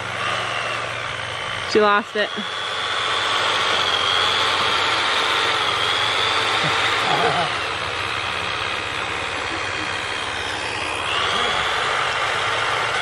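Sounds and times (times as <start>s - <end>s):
motor running with high whine: 0.0s - 13.0s.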